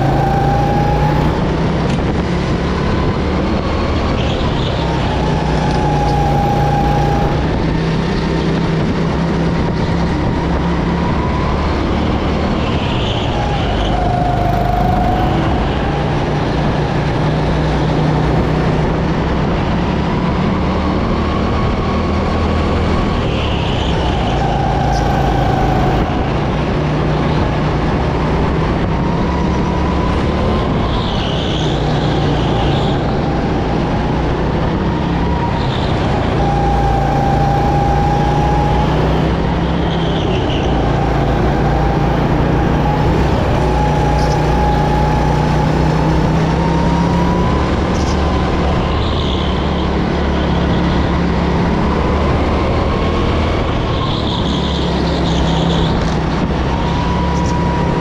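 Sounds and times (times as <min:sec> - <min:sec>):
go-kart engine: 0:00.0 - 0:58.0.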